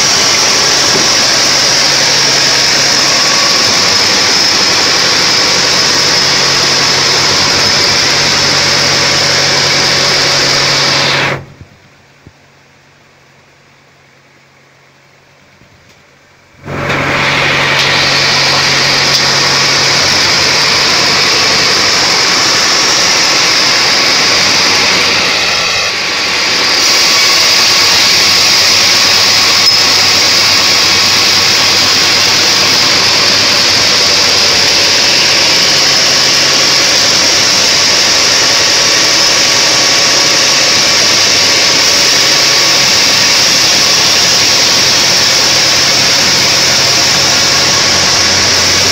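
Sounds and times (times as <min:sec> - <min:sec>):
band saw blade hissing through wood: 0:00.0 - 0:11.4, 0:16.6 - 0:48.9.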